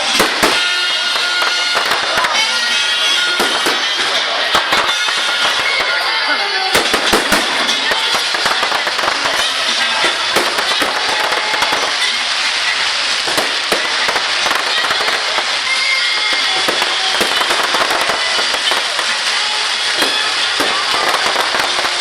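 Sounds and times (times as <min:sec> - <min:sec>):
fireworks crackling: 0:00.0 - 0:22.0
sharp firework reports: 0:00.0 - 0:22.0.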